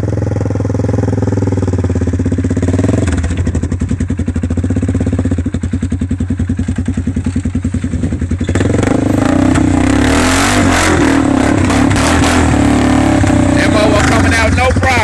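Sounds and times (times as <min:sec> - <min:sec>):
engine revving: 0:00.0 - 0:05.5, 0:06.5 - 0:15.0.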